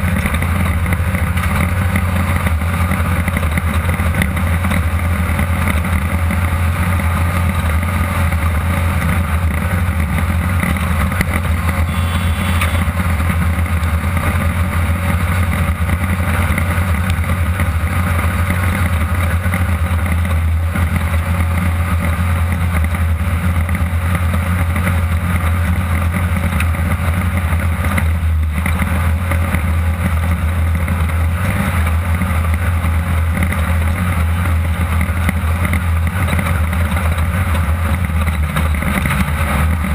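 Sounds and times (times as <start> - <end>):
engine droning loudly: 0.0 - 39.9
wind and road noise: 0.0 - 39.9.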